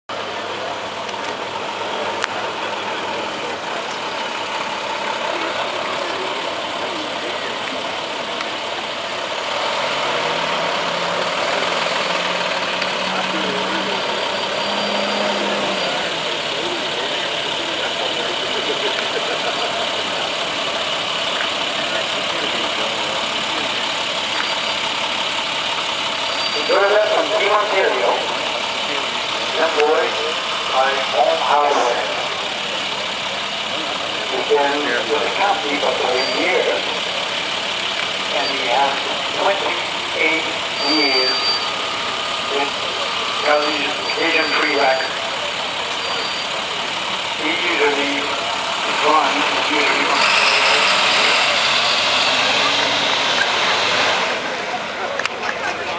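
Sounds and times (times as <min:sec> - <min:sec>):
engine idling: 0:00.1 - 0:55.9
faint voices: 0:00.1 - 0:55.9.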